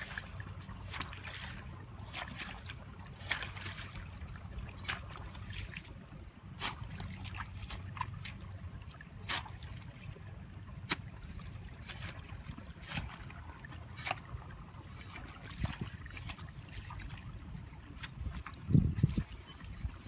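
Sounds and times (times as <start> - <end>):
steady low rumble: 0.0 - 20.0
water splashing and trickling: 0.0 - 20.0.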